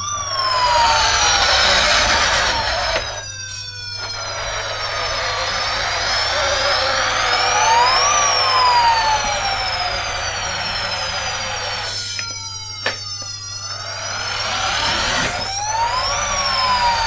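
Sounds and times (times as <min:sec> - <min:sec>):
whining engine: 0:00.0 - 0:17.0.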